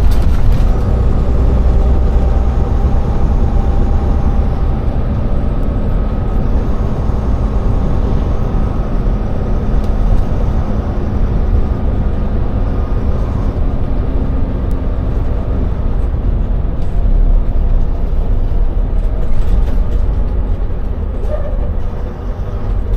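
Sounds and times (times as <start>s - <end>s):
truck engine and road rumble: 0.0s - 22.9s.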